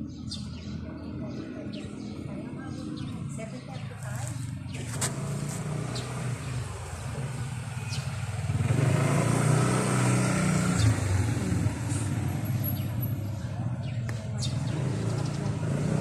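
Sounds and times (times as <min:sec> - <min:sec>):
motorcycle engine running: 0:01.0 - 0:16.0.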